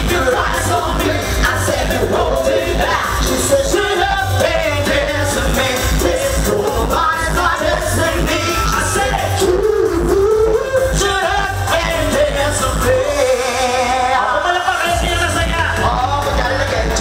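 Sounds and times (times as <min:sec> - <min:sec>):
pulsing bass beat: 0:00.0 - 0:13.4, 0:14.9 - 0:17.0
men singing pop music: 0:00.0 - 0:17.0.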